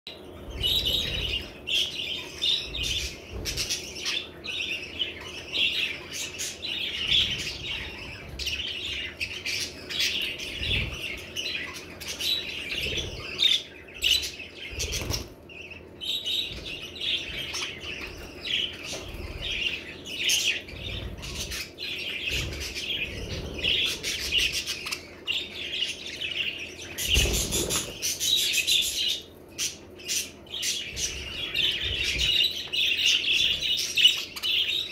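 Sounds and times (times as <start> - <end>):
budgerigars chattering and chirping: 0.2 - 34.9.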